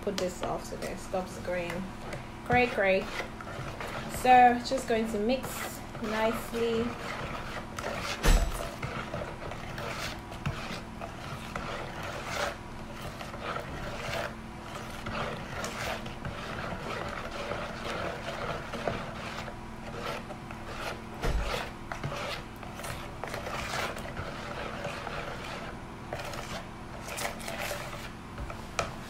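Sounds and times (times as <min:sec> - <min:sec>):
spatula scraping metal bowl: 0:00.0 - 0:28.2.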